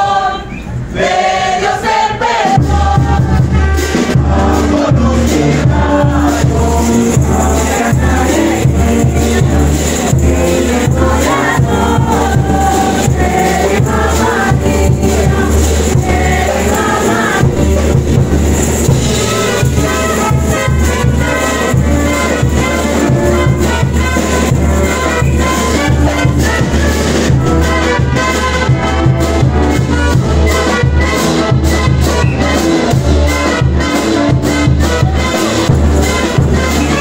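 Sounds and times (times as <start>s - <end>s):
brass band playing: 0.0s - 37.0s
bass drum beat: 2.5s - 37.0s.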